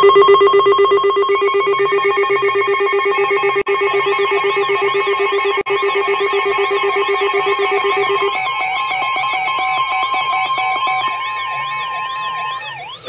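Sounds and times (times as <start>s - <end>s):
rapidly pulsing electronic tone: 0.0s - 13.0s
warbling siren sweep: 0.0s - 13.0s.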